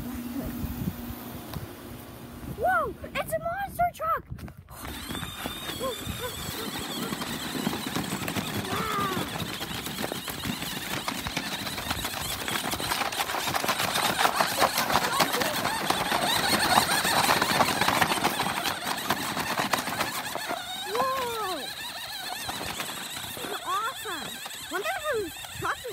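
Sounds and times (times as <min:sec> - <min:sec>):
toy truck motor whirring: 0:04.7 - 0:25.9
wheels crunching snow: 0:04.7 - 0:25.9.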